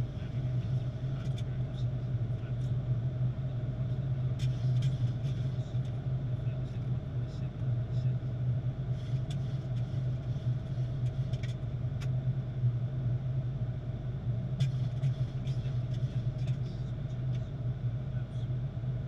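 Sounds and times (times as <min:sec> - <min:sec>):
cockpit engine and air drone: 0:00.0 - 0:19.0.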